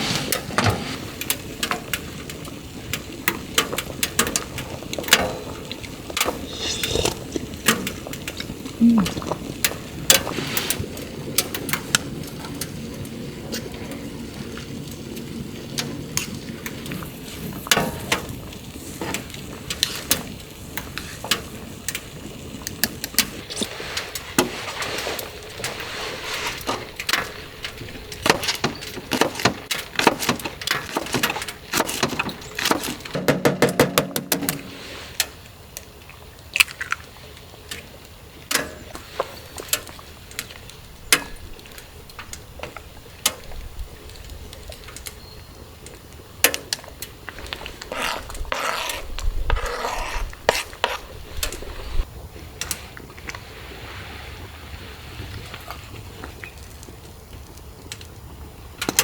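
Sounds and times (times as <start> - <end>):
steady rain: 0.0 - 6.5, 7.2 - 33.2, 34.6 - 48.5, 51.4 - 59.0.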